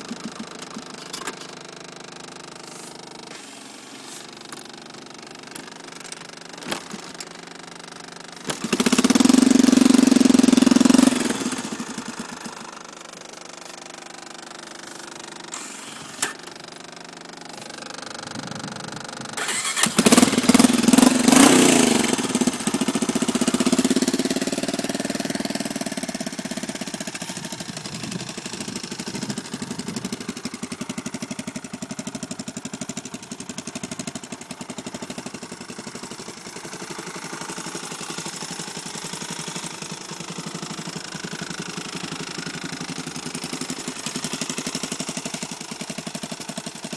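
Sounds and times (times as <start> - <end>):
atv engine idling and revving: 0.0 - 46.9.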